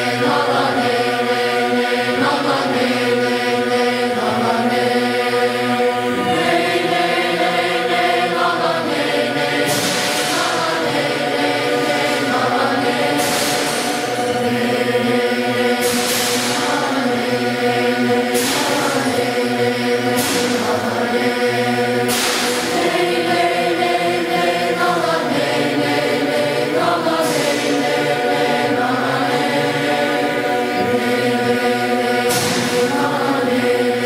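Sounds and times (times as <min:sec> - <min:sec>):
boys' choir chanting: 0:00.0 - 0:34.0.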